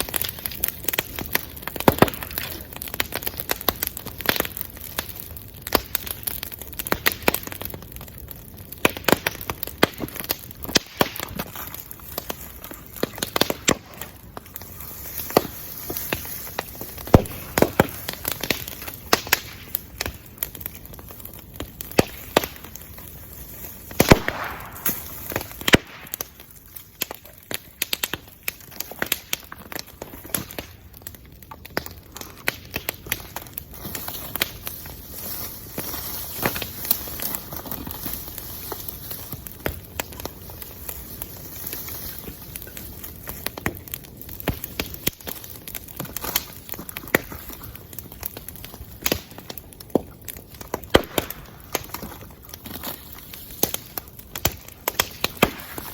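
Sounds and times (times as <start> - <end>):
bonfire crackling and popping: 0.0 - 55.9.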